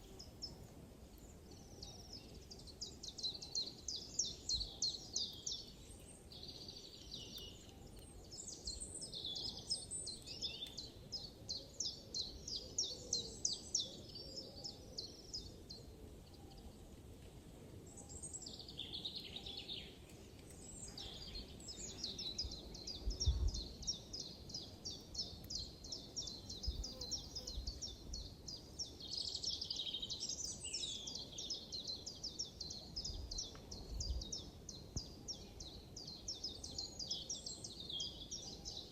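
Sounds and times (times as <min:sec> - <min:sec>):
songbirds singing: 0:00.0 - 0:17.0, 0:17.7 - 0:38.9.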